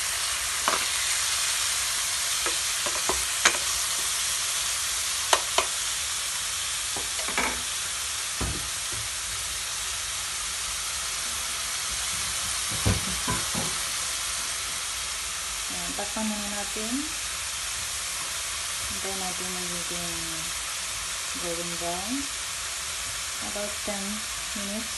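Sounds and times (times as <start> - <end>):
chicken sizzling in a frying pan: 0.0 - 24.9.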